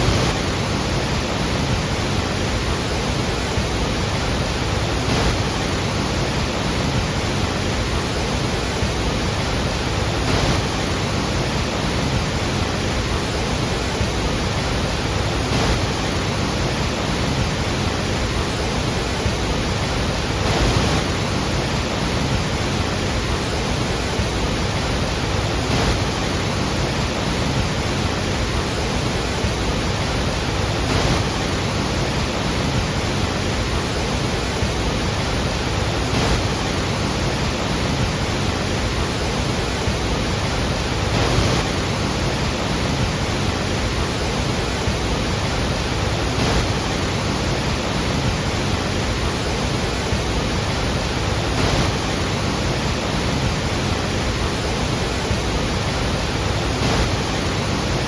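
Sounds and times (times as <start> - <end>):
large waterfall roaring: 0.0 - 58.0.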